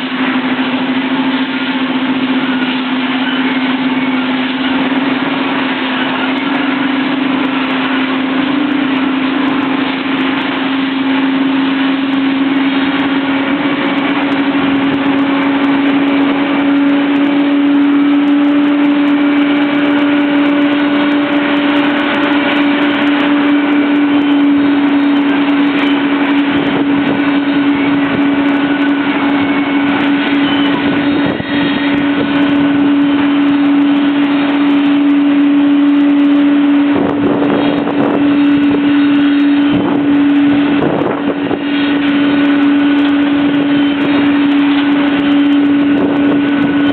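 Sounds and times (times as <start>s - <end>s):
jet engine drone: 0.0s - 46.9s.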